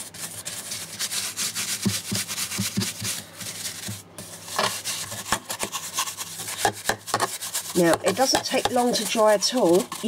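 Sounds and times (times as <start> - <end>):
paintbrush brushing strokes: 0.0 - 10.0.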